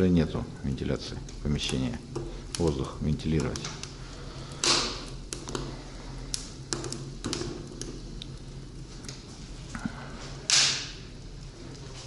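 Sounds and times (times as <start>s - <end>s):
low steady hum: 0.0s - 12.0s
firewood crackling and popping: 1.0s - 12.0s.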